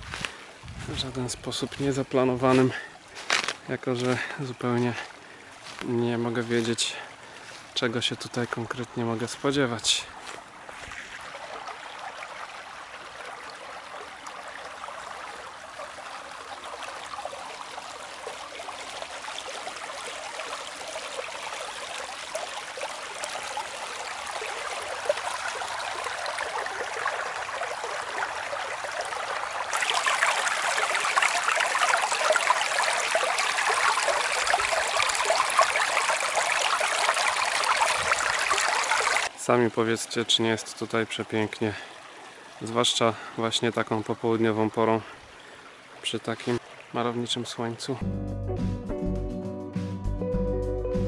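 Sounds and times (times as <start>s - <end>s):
stream running over stones: 0.0s - 48.0s.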